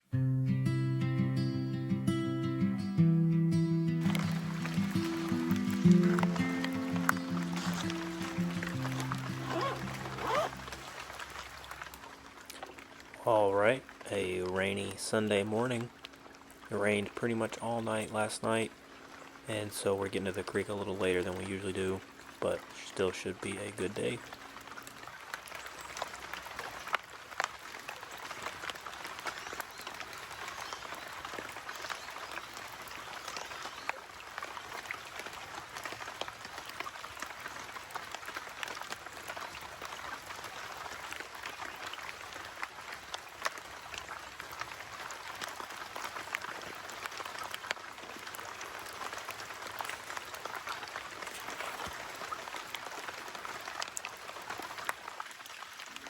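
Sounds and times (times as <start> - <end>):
rain pattering: 4.0 - 56.0.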